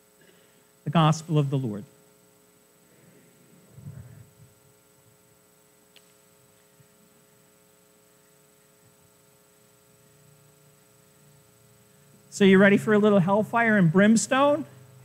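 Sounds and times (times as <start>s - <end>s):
faint electrical mains hum: 0.0s - 15.0s.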